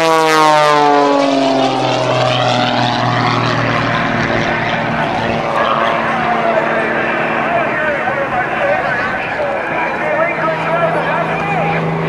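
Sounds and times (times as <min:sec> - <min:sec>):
propeller plane passing: 0:00.0 - 0:12.0.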